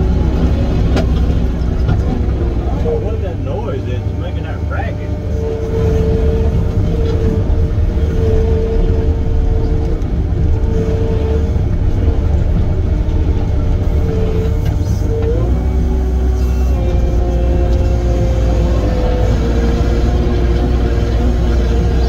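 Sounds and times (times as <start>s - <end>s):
diesel rumble with whining tone: 0.0s - 22.0s.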